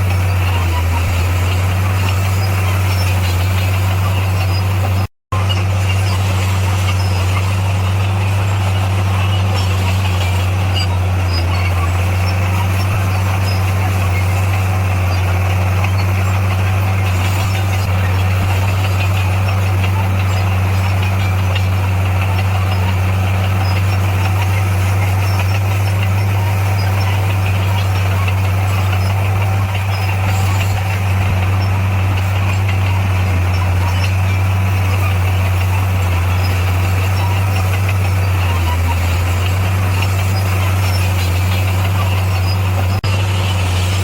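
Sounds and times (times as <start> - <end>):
diesel engine humming: 0.0 - 44.0.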